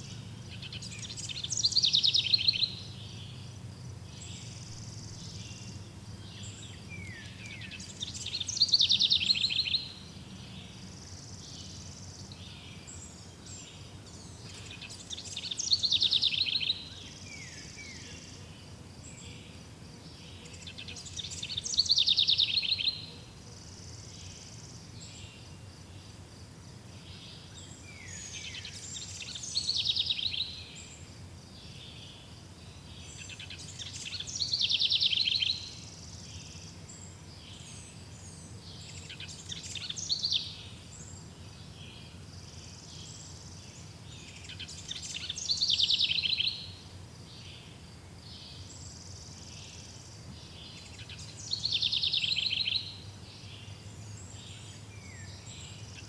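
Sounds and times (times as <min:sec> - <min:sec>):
bird singing trill-like phrases: 0:00.0 - 0:26.3, 0:26.9 - 0:56.0
faint high-pitched hiss: 0:00.0 - 0:56.0.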